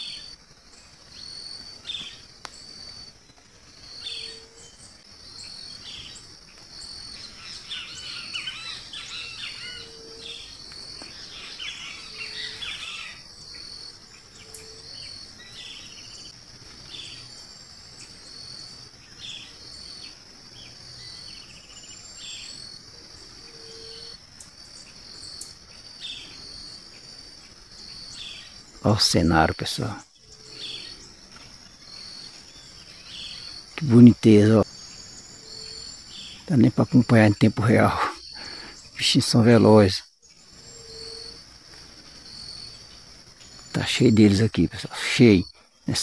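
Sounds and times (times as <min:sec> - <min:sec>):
birds singing: 0:00.0 - 0:46.0
high-pitched insect chorus: 0:00.0 - 0:46.0.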